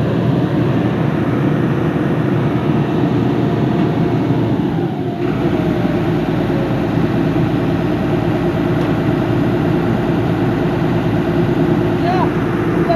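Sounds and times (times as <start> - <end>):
excavator engine running: 0.0 - 12.9
hydraulic pump whine: 0.0 - 12.9.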